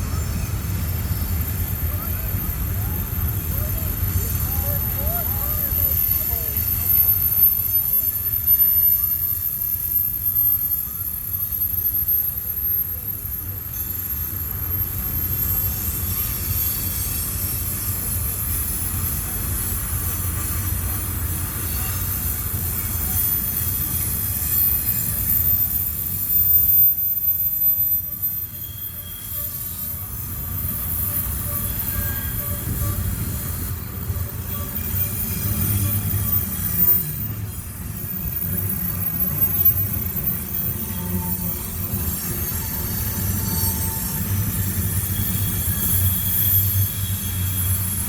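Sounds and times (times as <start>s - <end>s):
low rumble of train: 0.0s - 48.0s
train wheel flanges squealing: 0.0s - 48.0s.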